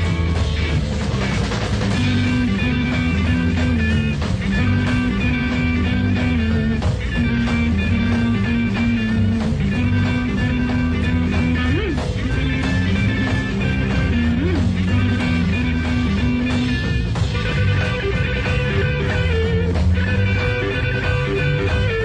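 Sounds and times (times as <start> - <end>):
instrumental rock music: 0.0 - 22.0
steady bass line: 0.0 - 22.0.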